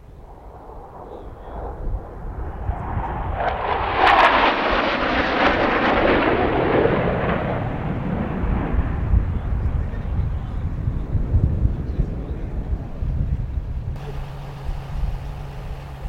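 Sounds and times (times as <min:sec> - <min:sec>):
jet aircraft passing overhead: 0:00.0 - 0:16.0.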